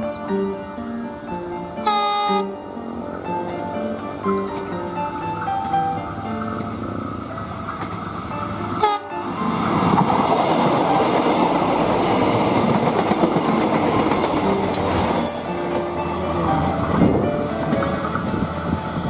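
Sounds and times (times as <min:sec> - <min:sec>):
background music: 0:00.0 - 0:19.0
diesel train passing close by: 0:00.0 - 0:19.0.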